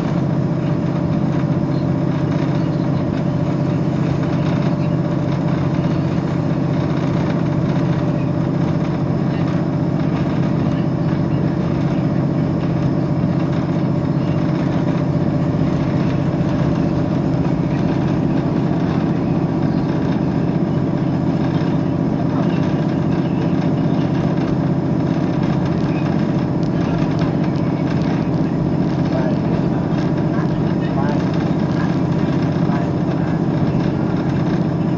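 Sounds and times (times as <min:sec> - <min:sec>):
diesel train engine drone: 0:00.0 - 0:34.9.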